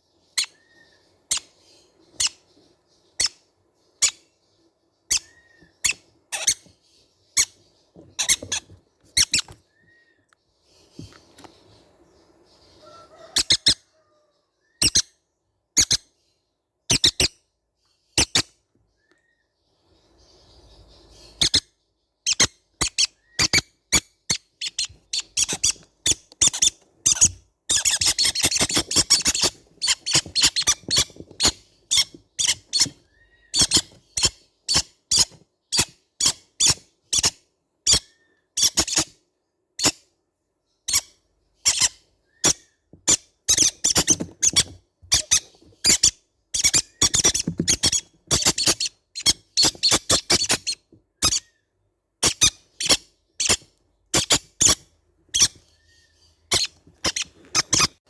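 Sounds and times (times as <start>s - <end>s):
baby parrots squeaking: 0.3s - 4.3s, 5.1s - 10.1s, 12.5s - 15.2s, 15.8s - 16.1s, 16.9s - 17.4s, 18.2s - 18.6s, 20.4s - 39.2s, 39.8s - 40.0s, 40.8s - 58.0s.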